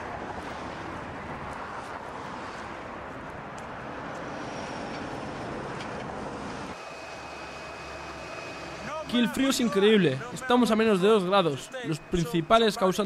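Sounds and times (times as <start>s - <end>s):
road traffic hiss and rumble: 0.0s - 13.0s.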